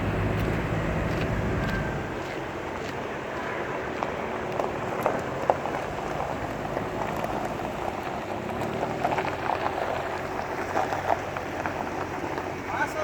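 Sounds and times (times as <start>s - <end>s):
engine running with low hum: 0.0s - 13.0s
crackling patter with clicks: 0.4s - 12.8s.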